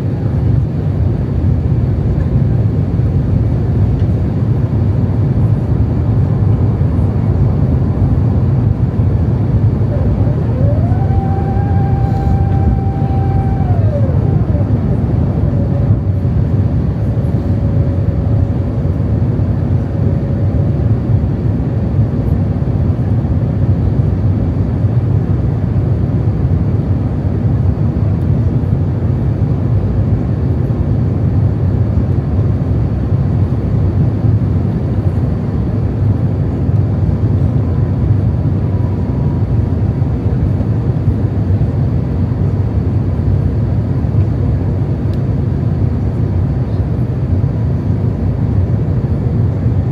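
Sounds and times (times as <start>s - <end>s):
airliner cabin rumble: 0.0s - 49.9s.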